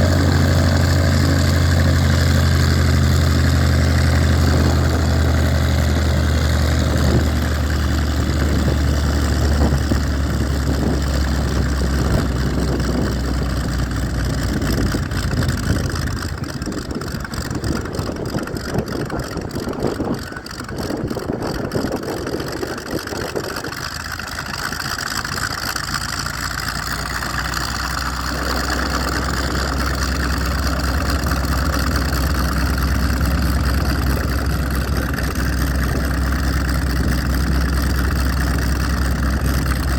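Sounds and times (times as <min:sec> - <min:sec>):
aircraft piston engine drone: 0:00.0 - 0:39.9.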